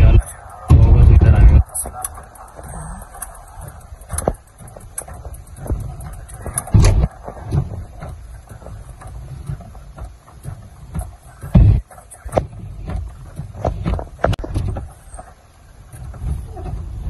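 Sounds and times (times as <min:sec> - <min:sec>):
car cabin rumble: 0:00.0 - 0:17.0
thumps and clicks: 0:00.0 - 0:17.0.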